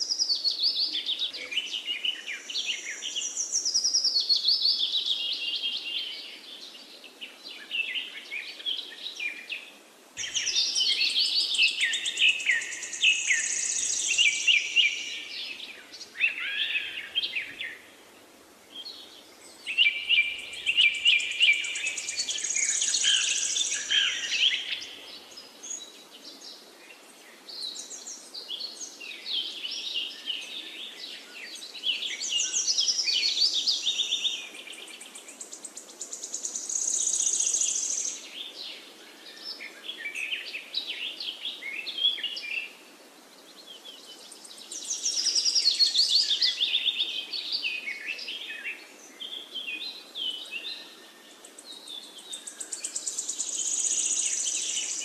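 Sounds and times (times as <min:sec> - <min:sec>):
birds chirping and trilling: 0:00.0 - 0:18.1, 0:18.7 - 0:42.8, 0:43.5 - 0:55.0
faint steady hiss: 0:00.0 - 0:55.0.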